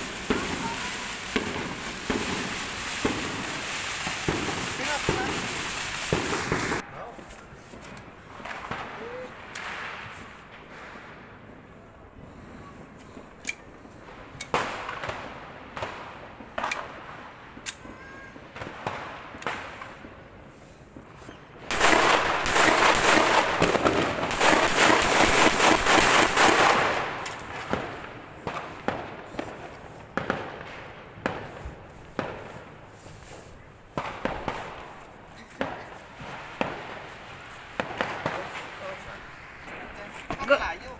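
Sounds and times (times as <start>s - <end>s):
firecrackers going off: 0.0s - 40.9s.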